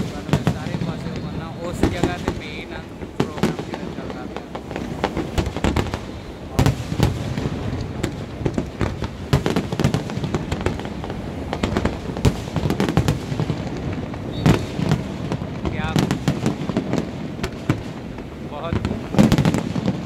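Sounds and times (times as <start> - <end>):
fireworks bursting: 0.0 - 20.0
loud firework booms: 0.0 - 20.0.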